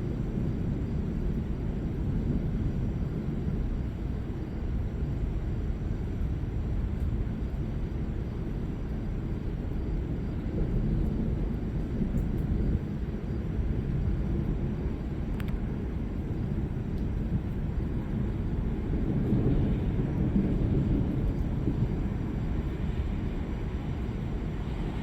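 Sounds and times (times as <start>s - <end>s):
low rolling thunder: 0.0s - 25.0s.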